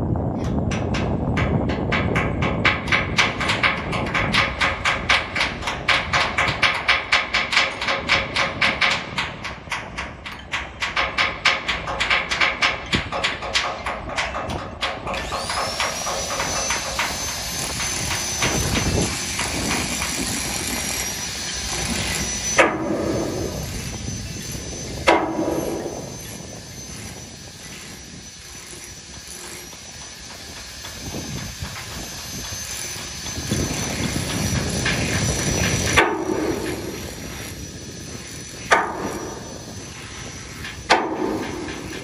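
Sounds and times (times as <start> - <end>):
thin high whine: 1.9 - 42.0.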